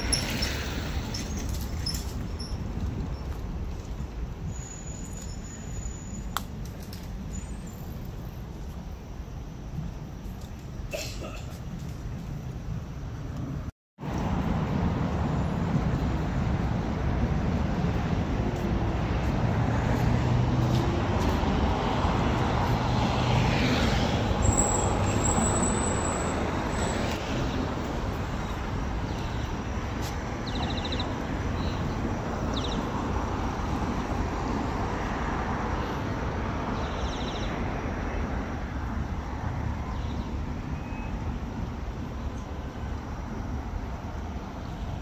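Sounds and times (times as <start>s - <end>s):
passing vehicles: 0.0s - 45.0s.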